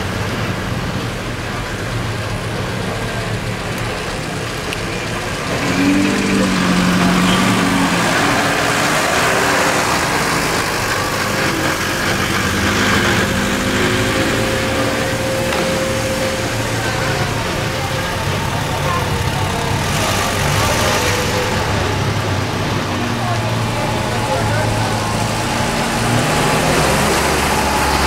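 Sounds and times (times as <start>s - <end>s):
car engines at low speed: 0.0s - 28.0s
van engine driving past: 4.2s - 28.0s.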